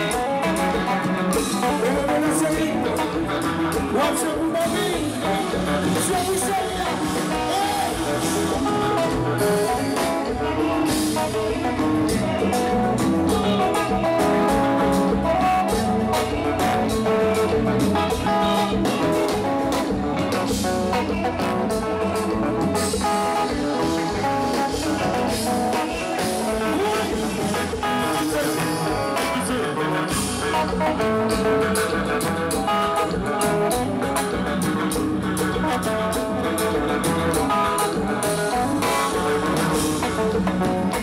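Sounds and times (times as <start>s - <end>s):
drum kit beat: 0.0s - 41.0s
electric guitar picking: 0.0s - 41.0s.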